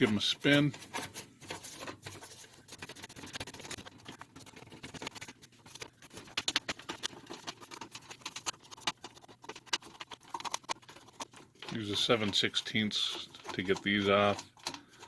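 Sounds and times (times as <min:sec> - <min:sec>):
light metal clicks and scratches: 0:00.0 - 0:15.0.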